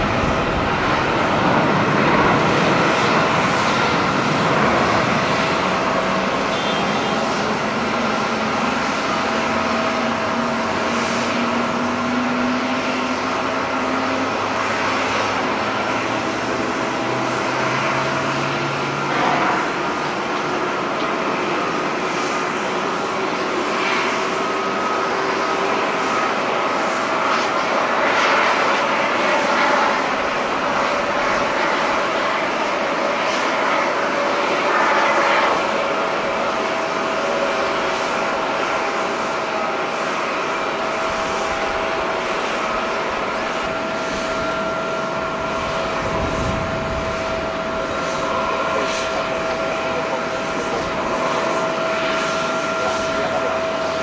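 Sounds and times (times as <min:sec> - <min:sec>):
jet engines roaring at takeoff: 0:00.0 - 0:54.0.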